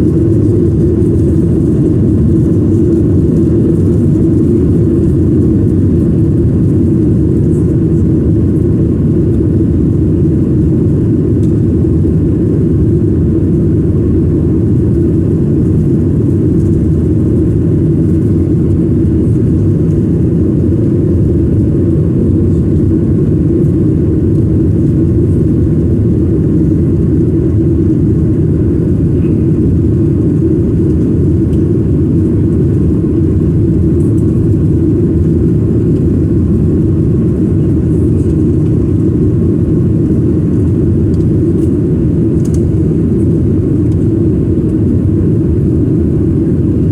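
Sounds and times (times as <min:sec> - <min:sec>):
jet airliner cabin roar: 0:00.0 - 0:46.9.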